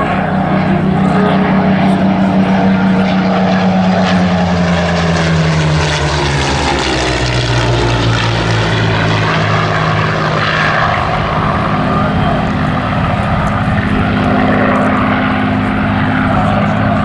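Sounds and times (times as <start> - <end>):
aircraft engines flying past: 0.0 - 17.0.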